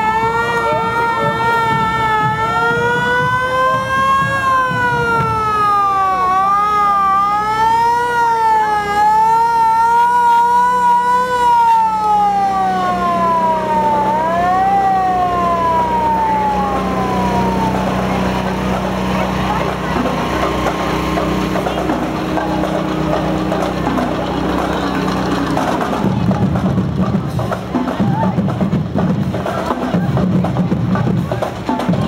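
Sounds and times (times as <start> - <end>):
fire truck siren wailing: 0.0 - 26.6.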